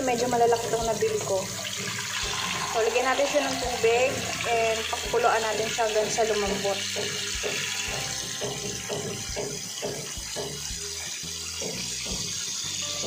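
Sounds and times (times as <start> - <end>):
tap water pouring into pot: 0.0 - 13.0.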